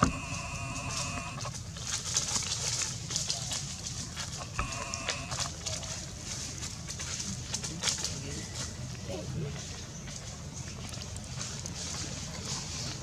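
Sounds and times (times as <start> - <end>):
dry leaves crackling underfoot: 0.0 - 13.0.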